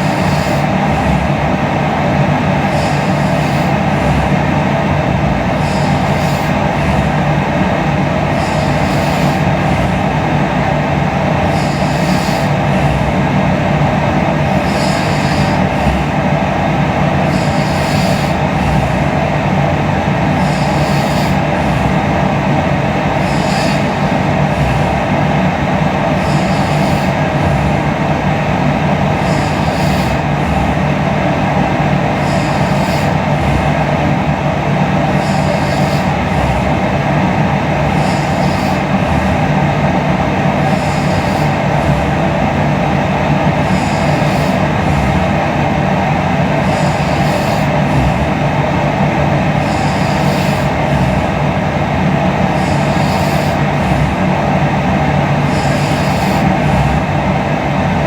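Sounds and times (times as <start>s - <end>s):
breathing hiss: 0.0s - 58.0s
loud steady rumbling: 0.0s - 58.0s.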